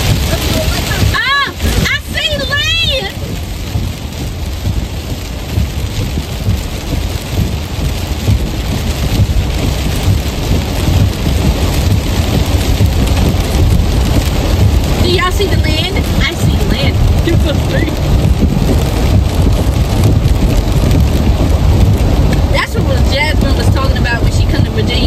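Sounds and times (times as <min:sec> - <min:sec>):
low car rumble: 0:00.0 - 0:25.0
wind and road noise: 0:00.0 - 0:25.0.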